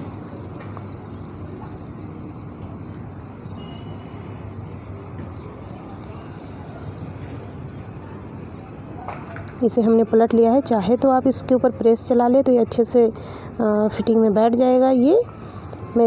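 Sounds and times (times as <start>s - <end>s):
faint high chirping: 0.0s - 11.8s, 12.7s - 16.0s
low background noise: 0.0s - 16.0s.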